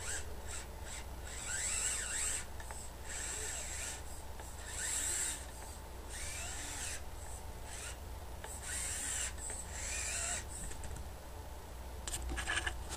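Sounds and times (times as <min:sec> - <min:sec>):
electric motor and gears whining: 0:00.0 - 0:10.9.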